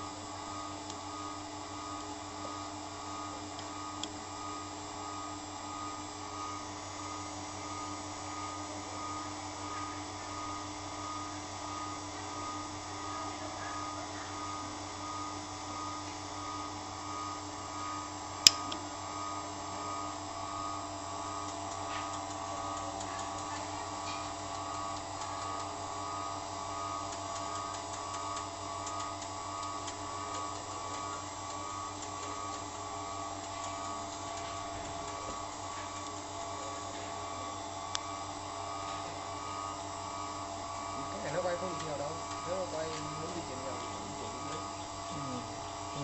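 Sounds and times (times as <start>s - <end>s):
grinding machine whine and hum: 0.0s - 46.0s.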